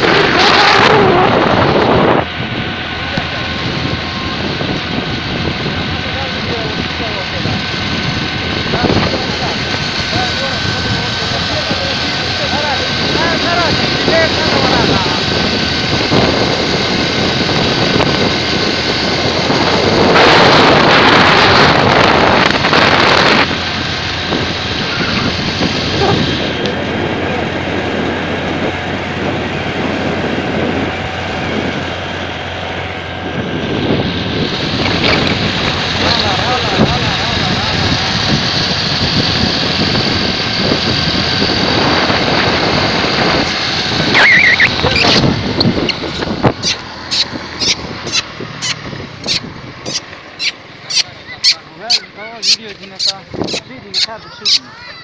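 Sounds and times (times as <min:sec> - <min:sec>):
motorcycle engine running: 0:00.0 - 0:54.9
wind buffeting microphone: 0:00.0 - 0:55.0.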